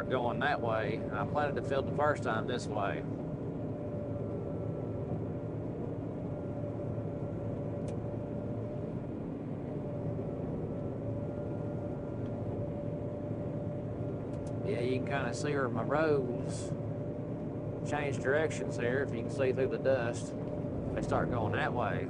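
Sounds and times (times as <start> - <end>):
combine harvester hum and whine: 0.0 - 22.0.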